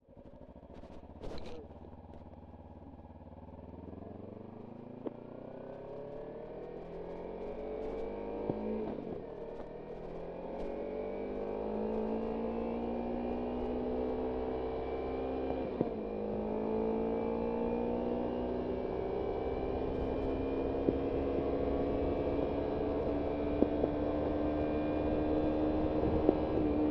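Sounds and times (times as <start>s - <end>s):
motorcycle engine accelerating: 0.0s - 26.9s.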